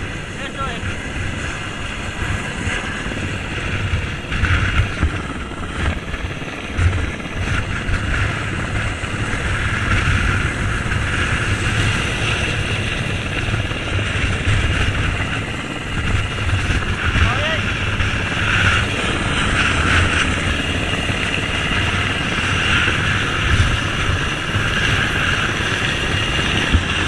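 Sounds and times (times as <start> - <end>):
helicopter rotor and engine: 0.0 - 27.0
wind buffeting microphone: 0.0 - 27.0.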